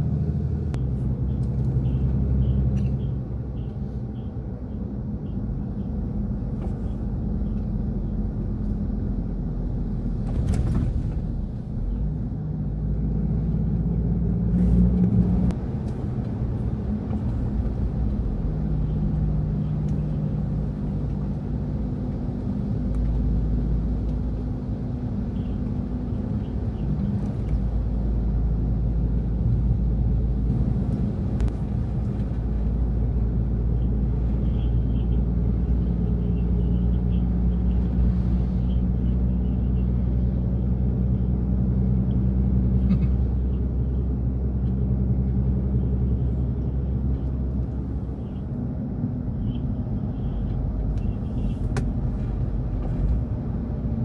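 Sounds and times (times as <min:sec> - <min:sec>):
low engine rumble: 0:00.0 - 0:54.0.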